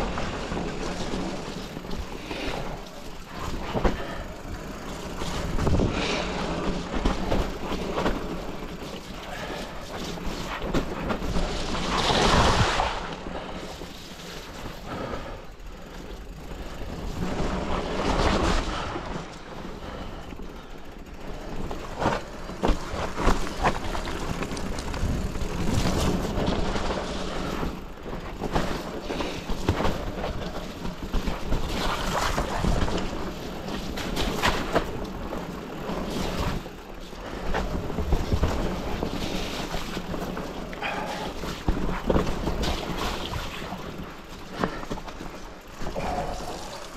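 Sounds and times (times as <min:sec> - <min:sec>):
wind over the camera: 0:00.0 - 0:15.6, 0:16.2 - 0:46.9
bike knocking and rattling: 0:00.0 - 0:46.9
tyres rushing on dirt: 0:00.0 - 0:46.9.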